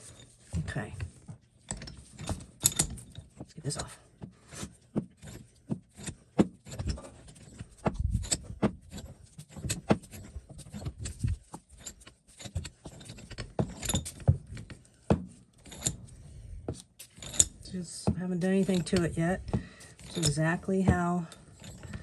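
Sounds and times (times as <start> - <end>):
metal vise parts clinking: 0.0 - 14.9, 15.5 - 16.2, 16.8 - 22.0.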